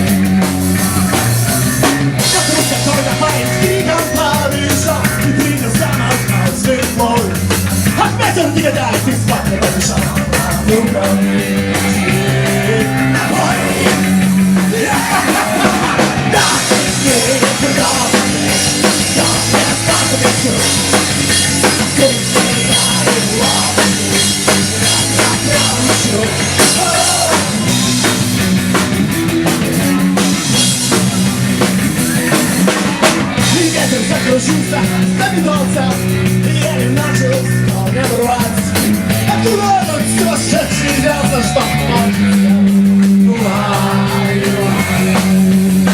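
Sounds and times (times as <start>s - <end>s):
punk rock band instrumental: 0.0s - 45.9s.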